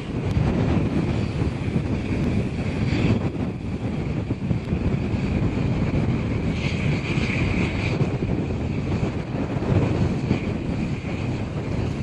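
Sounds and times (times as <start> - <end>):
airliner engines rumbling: 0.0 - 12.0
engine whine: 0.0 - 12.0
wind buffeting microphone: 0.0 - 12.0.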